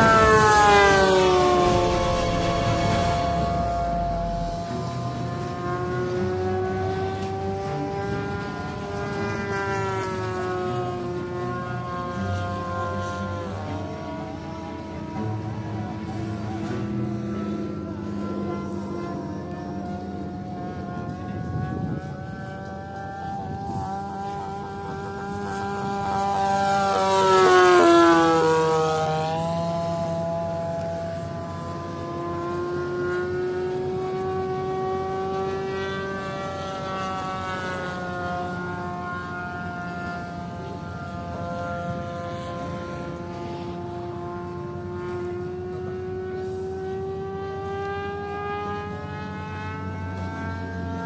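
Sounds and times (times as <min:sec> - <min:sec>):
model plane motor whine: 0:00.0 - 0:51.0.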